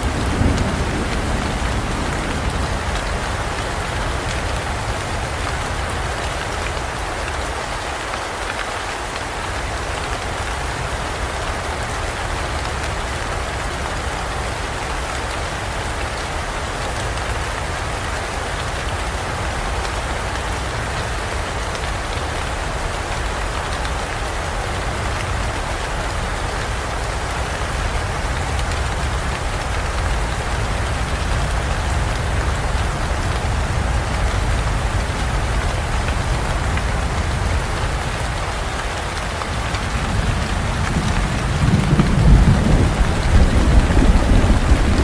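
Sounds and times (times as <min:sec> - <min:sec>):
dense rain falling: 0:00.0 - 0:45.0.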